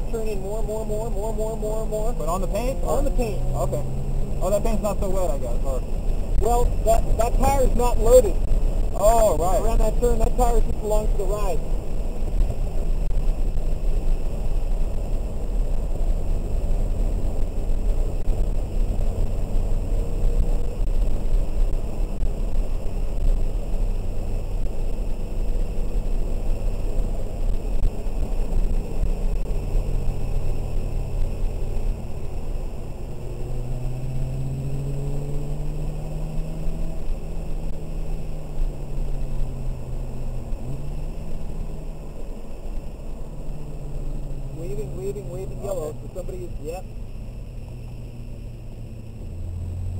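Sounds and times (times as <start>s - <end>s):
car engine under load: 0.0s - 49.9s
road and tyre rumble: 0.0s - 49.9s.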